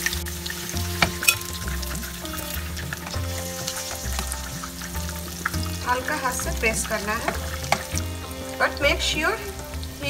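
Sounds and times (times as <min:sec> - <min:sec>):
background music with low beat: 0:00.0 - 0:10.0
oil sizzling in a pan: 0:00.0 - 0:10.0.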